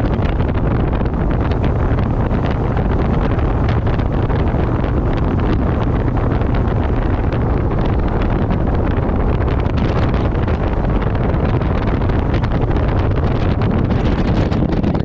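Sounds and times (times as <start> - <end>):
low road rumble: 0.0 - 15.0
vehicle engine noise: 0.0 - 15.0
wind buffeting microphone: 0.0 - 15.0.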